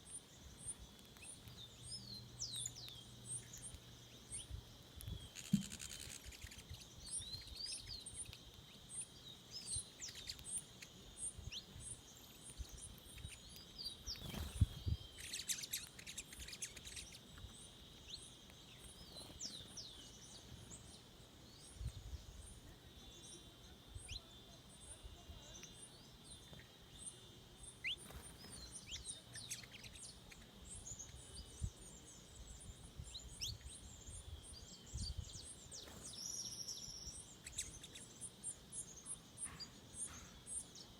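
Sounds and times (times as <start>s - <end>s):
forest birds chirping: 0.0s - 40.9s
high-pitched insect drone: 0.1s - 39.2s.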